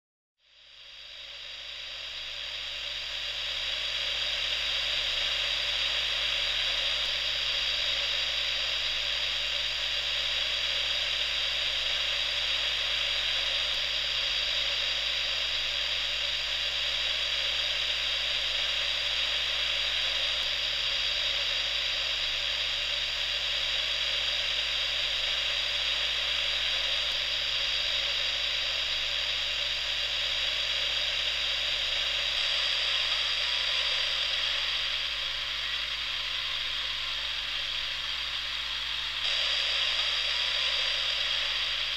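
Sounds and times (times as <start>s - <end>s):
faint mains hum: 0.4s - 41.9s
radio static hiss with whistles: 0.6s - 41.9s.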